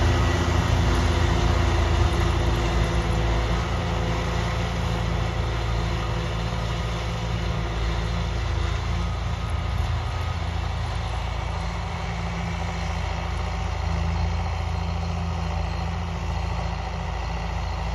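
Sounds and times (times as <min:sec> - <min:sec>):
disc mower cutting grass: 0:00.0 - 0:17.9
tractor diesel engine running: 0:00.0 - 0:17.9.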